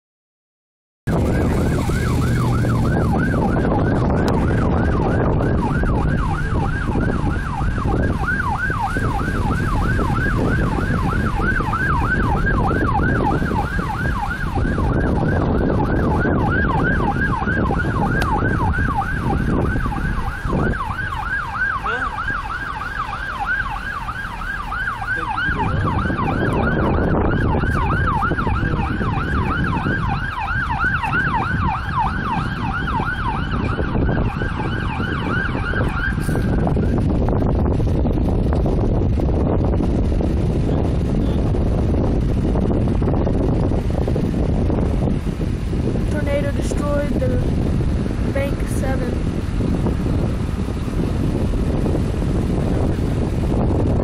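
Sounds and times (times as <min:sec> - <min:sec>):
emergency siren yelping: 0:01.1 - 0:45.2
steady low rumble: 0:01.1 - 0:54.0.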